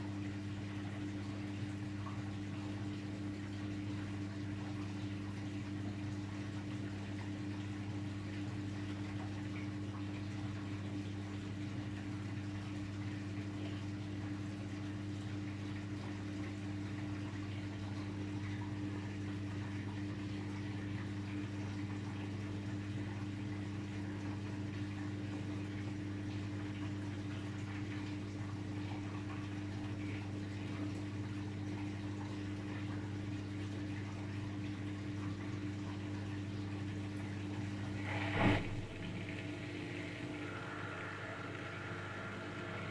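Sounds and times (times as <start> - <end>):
drain pump humming: 0.0 - 42.9
water trickling: 0.0 - 42.9.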